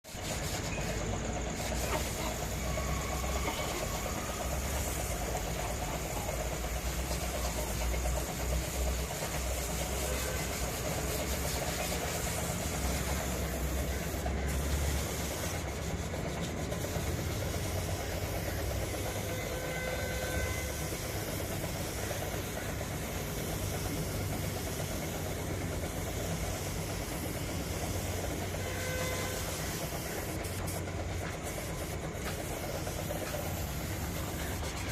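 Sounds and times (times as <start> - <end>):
heavy engine humming: 0.1 - 34.9.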